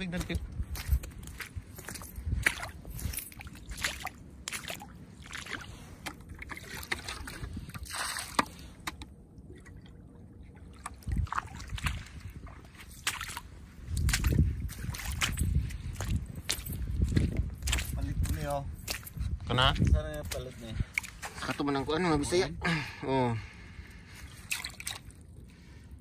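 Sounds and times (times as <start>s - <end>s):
person wading through shallow water: 0.0s - 19.4s, 20.2s - 26.0s.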